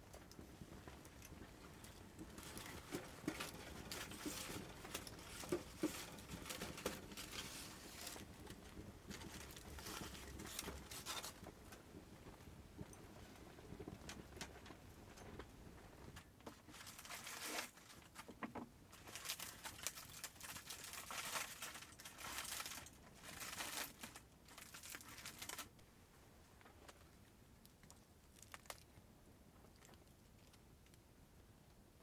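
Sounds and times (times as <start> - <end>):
crinkling and rustling: 0.0 - 31.1.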